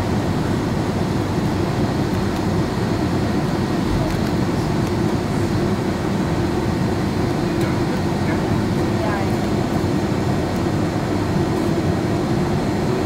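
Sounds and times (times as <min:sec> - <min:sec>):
jet engines rumbling in cabin: 0:00.0 - 0:13.0.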